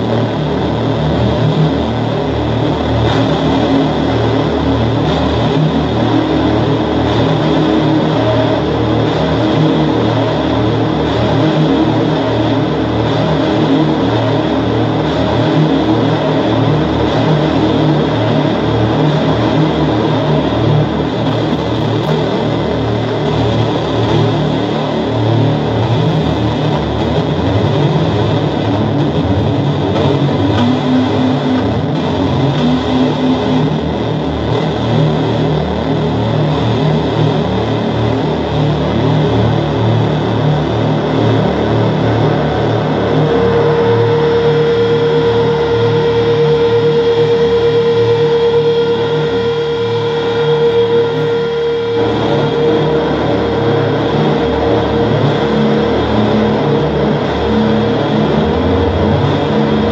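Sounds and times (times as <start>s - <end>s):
dense electronic noise: 0.0s - 59.9s
distorted noise music: 0.0s - 59.9s
low pulsing layer: 0.0s - 59.9s
throbbing low tones: 0.0s - 59.9s.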